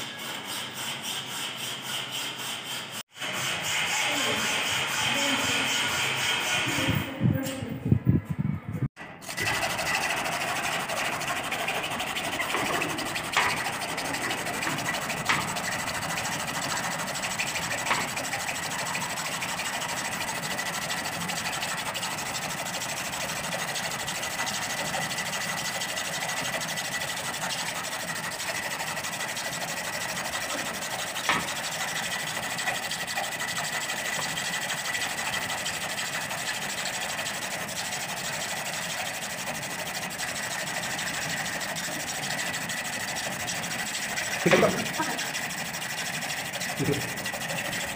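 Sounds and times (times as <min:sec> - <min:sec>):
hacksaw rasping on metal: 0:00.0 - 0:07.1, 0:09.2 - 0:47.9.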